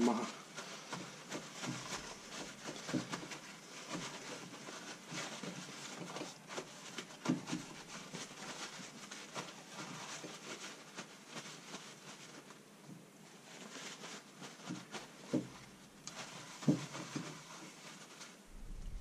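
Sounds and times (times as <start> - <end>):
paper towels rustling and crinkling: 0.0 - 19.0.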